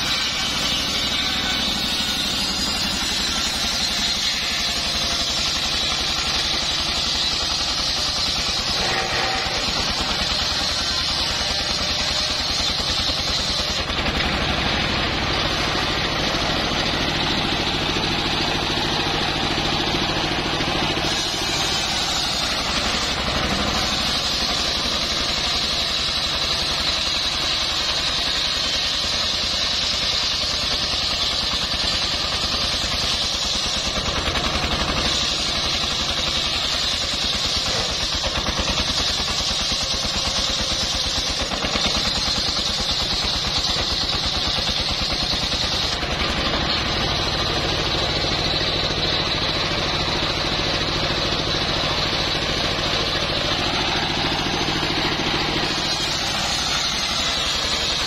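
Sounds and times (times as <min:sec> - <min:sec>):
circular saw blade cutting wood: 0:00.0 - 0:58.0
stationary engine running: 0:00.0 - 0:58.0.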